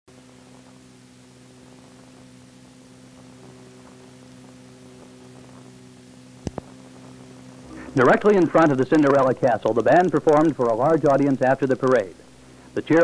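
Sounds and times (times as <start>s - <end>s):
electrical mains hum: 0.1s - 13.0s
faint hiss: 0.1s - 13.0s.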